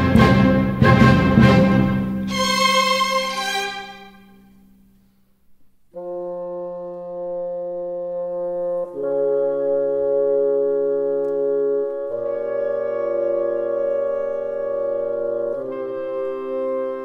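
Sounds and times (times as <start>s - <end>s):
orchestral music led by brass: 0.0s - 4.4s, 6.0s - 17.0s.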